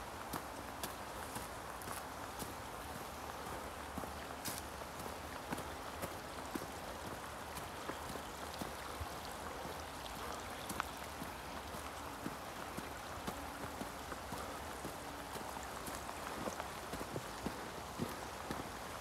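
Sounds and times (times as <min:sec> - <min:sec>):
footsteps on path: 0:00.0 - 0:19.0
stream water flowing: 0:00.0 - 0:19.0.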